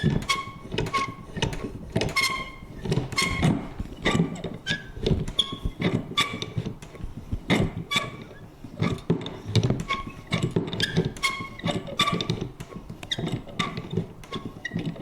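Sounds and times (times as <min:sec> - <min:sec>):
paper punch creaking and clicking: 0:00.0 - 0:15.0.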